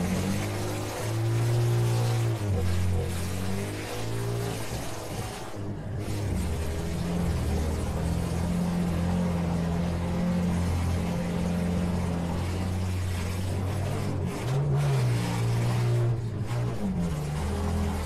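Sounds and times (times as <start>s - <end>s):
car engines running: 0.0s - 18.0s
engine revving: 0.0s - 18.0s.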